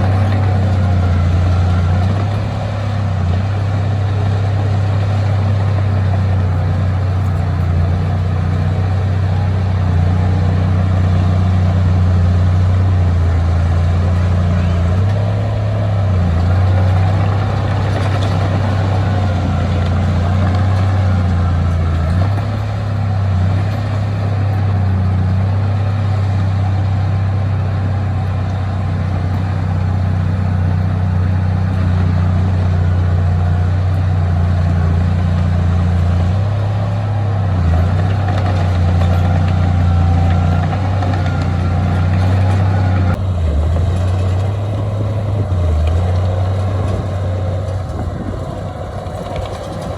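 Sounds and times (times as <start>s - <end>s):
heavy diesel engine droning: 0.0s - 49.9s.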